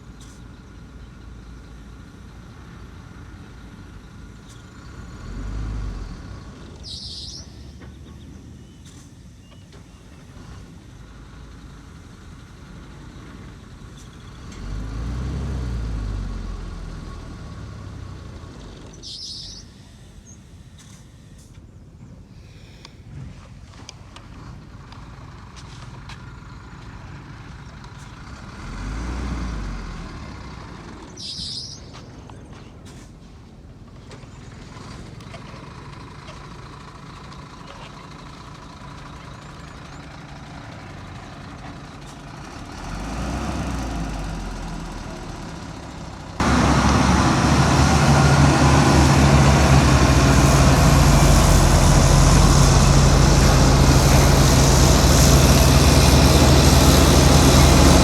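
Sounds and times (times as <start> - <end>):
close diesel engine drone: 0.0 - 58.0
distant diesel machinery engine: 0.0 - 58.0.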